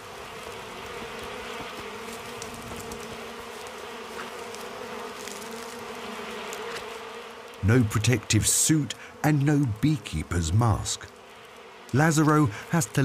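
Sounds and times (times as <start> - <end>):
bees buzzing drone: 0.0 - 13.0.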